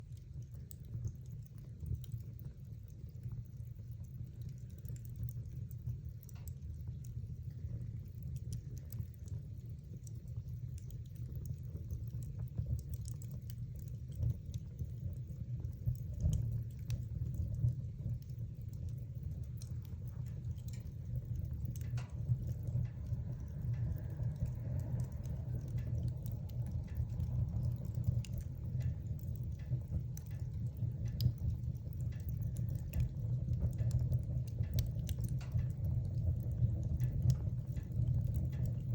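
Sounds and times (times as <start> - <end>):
fire rumbling: 0.0 - 38.9
logs crackling and popping: 0.0 - 38.9.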